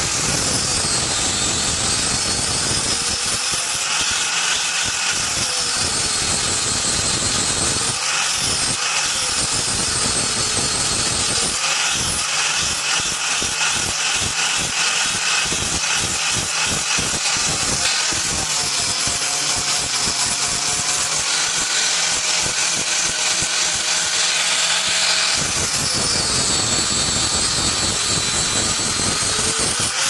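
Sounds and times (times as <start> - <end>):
electric grinder grinding steel: 0.0 - 30.0.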